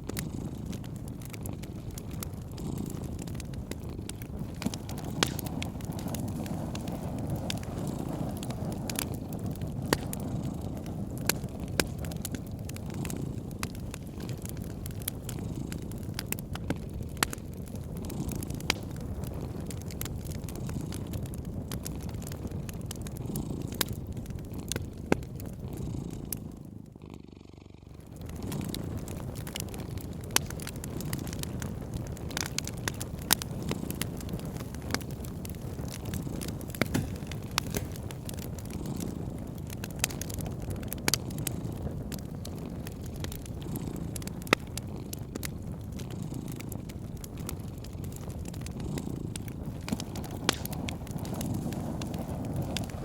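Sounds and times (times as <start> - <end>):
cat purring: 0.0 - 53.0
wood fire crackling and popping: 0.0 - 53.0.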